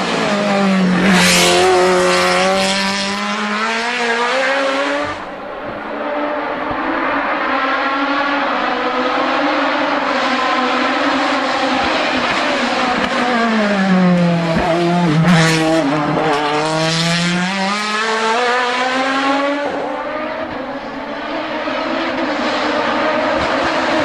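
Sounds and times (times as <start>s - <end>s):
race car engine passing: 0.0s - 24.0s.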